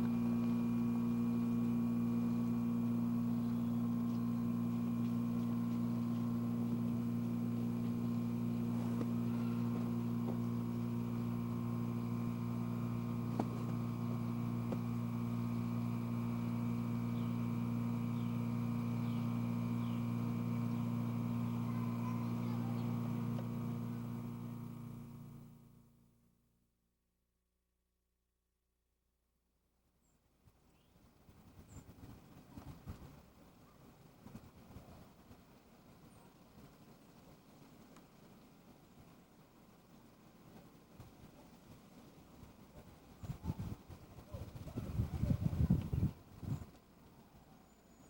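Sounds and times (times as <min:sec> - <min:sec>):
low electrical hum: 0:00.0 - 0:26.9, 0:29.3 - 0:48.0.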